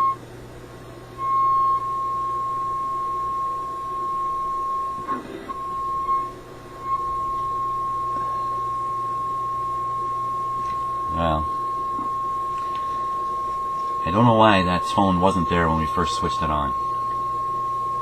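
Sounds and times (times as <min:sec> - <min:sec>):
steady test tone: 0:00.0 - 0:00.2, 0:00.8 - 0:18.0
low hum: 0:00.0 - 0:18.0.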